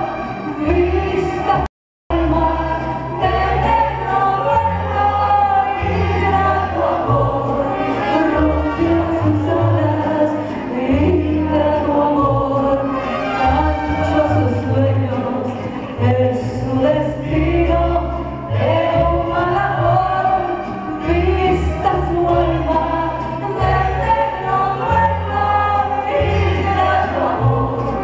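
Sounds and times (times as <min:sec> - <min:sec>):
bass line: 0:00.0 - 0:28.0
woman singing into a microphone: 0:00.5 - 0:28.0.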